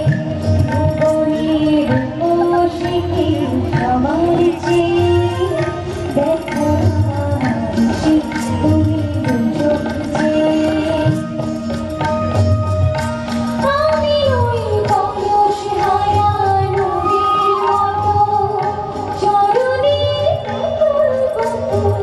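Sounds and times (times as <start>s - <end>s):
tabla drums: 0.0s - 22.0s
woman singing into microphone: 0.0s - 22.0s.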